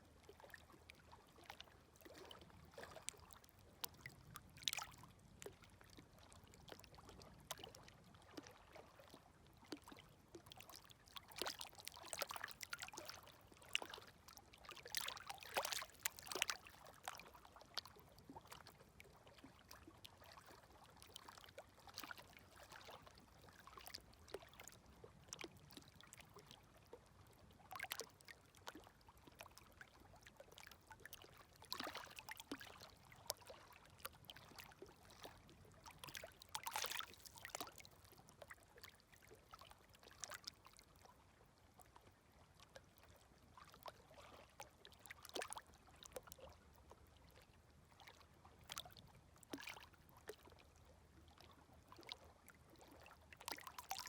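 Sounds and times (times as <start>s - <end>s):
small waves lapping at shore: 0.0s - 54.0s.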